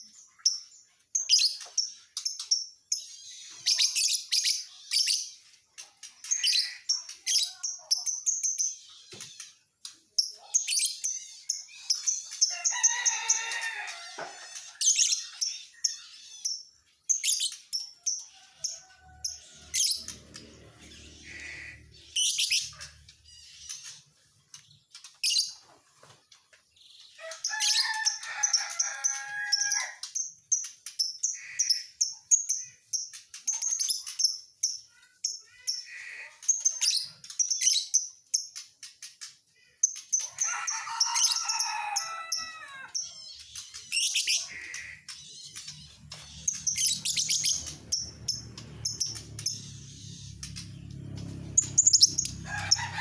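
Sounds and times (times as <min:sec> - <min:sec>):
lovebird chirping and twittering: 0:00.0 - 0:09.6, 0:10.2 - 0:25.7, 0:26.8 - 0:53.0.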